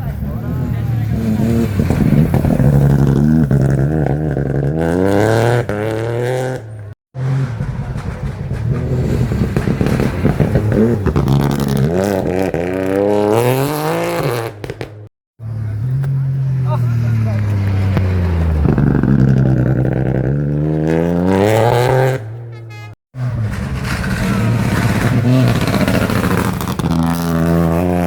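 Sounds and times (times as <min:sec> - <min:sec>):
rally car engines accelerating: 0:00.0 - 0:28.0.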